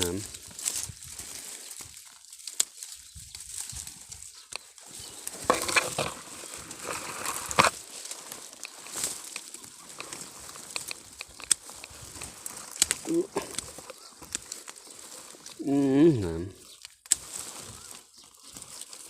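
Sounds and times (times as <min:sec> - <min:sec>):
twigs snapping: 0:00.0 - 0:15.6, 0:16.6 - 0:19.0
thorny brush rustling: 0:00.0 - 0:19.0.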